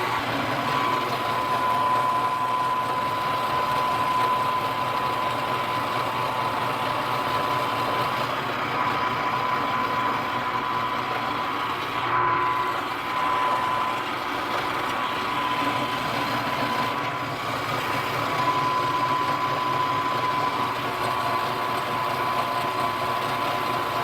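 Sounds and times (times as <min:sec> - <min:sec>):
low motor hum: 0:00.0 - 0:24.0
milling machine spindle whine: 0:00.0 - 0:24.0.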